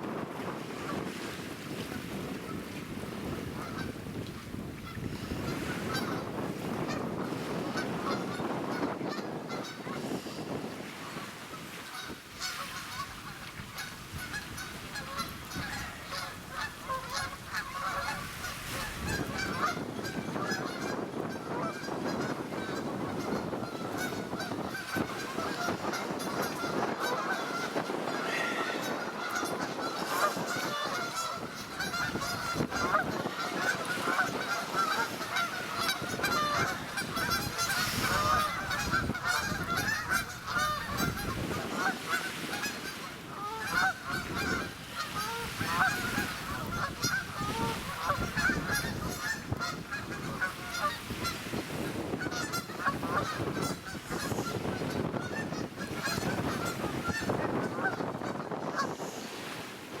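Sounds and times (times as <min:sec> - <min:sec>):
wind rumbling on microphone: 0:00.0 - 1:00.0
waterfowl honking: 0:03.3 - 0:04.0, 0:04.8 - 0:59.7.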